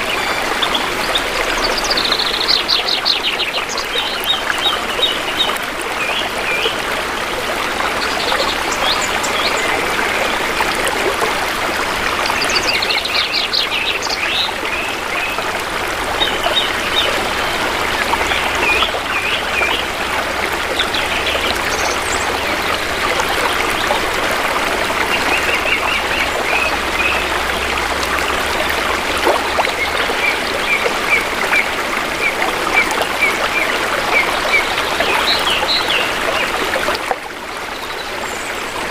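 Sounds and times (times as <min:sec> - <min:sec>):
shallow river water flowing: 0:00.0 - 0:38.9.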